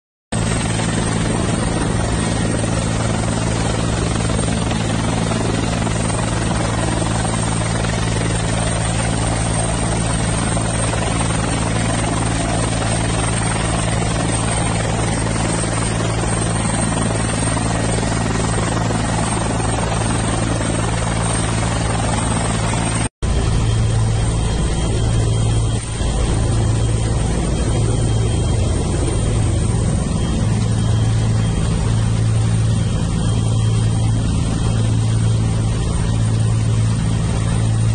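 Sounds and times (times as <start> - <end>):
helicopter turbine and rotor drone: 0.3 - 37.9.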